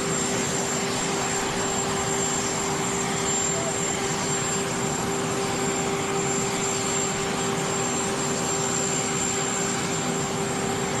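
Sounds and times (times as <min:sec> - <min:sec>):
jet aircraft noise: 0:00.0 - 0:11.0.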